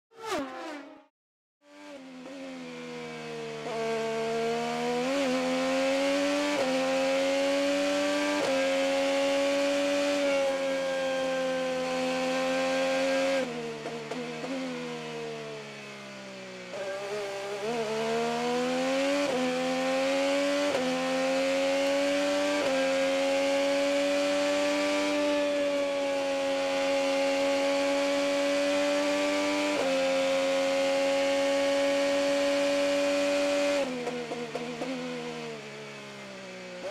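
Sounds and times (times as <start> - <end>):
racing car engine at full throttle: 0.2 - 36.9.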